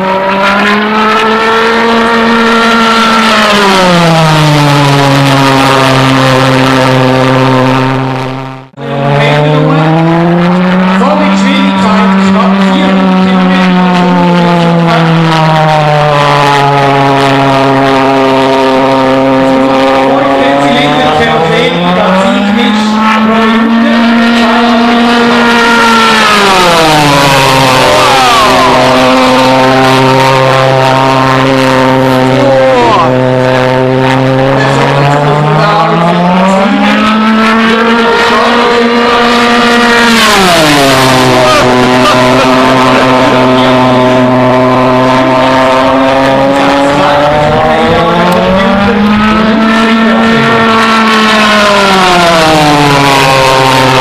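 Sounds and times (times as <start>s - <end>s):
pulse-jet engine buzzing drone: 0.0s - 54.0s.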